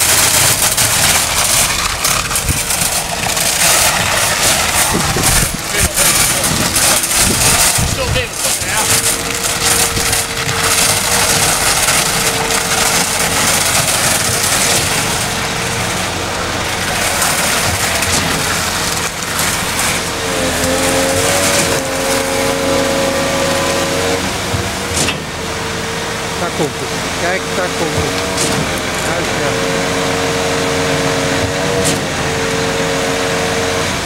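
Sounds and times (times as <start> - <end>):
steady tones: 0.0 - 32.8
concrete pump machine noise: 0.0 - 34.0.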